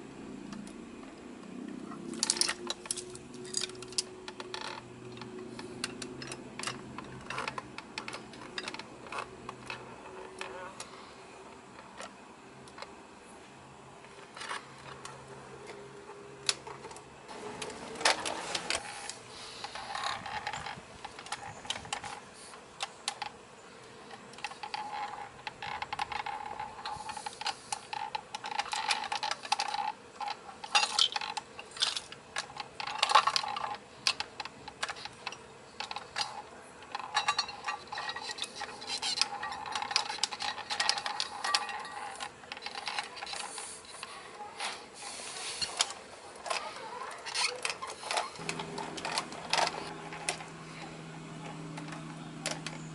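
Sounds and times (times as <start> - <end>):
toy wheels rolling on concrete: 0.2 - 52.9
toy truck clicks and rattles: 1.7 - 10.9, 14.1 - 22.2, 24.1 - 52.9.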